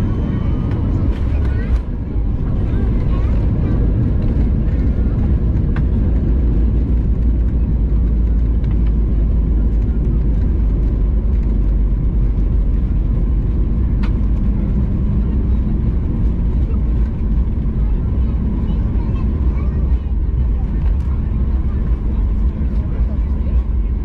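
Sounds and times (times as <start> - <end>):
airliner cabin engine rumble: 0.0 - 24.0.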